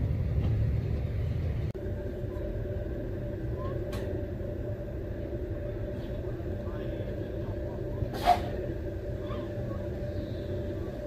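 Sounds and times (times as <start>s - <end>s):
locomotive humming: 0.0s - 11.0s.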